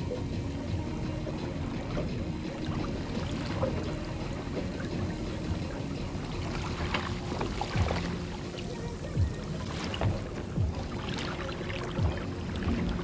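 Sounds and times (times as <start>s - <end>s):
water lapping against hull: 0.0s - 13.0s
water splashes: 0.0s - 13.0s.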